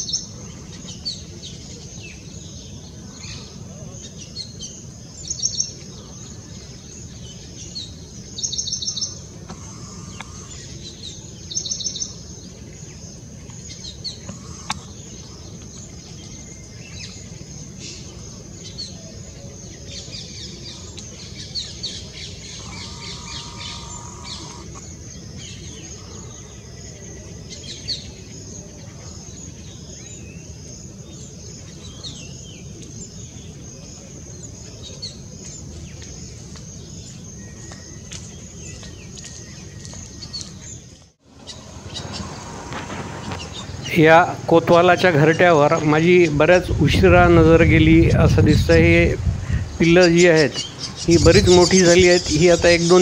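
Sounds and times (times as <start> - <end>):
birds chirping: 0.0 - 53.0
steady low background noise: 0.0 - 53.0.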